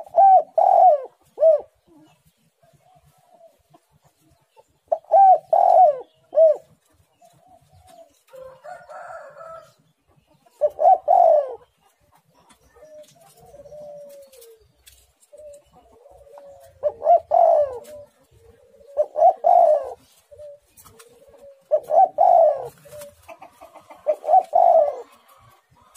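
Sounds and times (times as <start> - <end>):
dove cooing: 0.0 - 4.0, 4.7 - 9.8, 10.4 - 25.9.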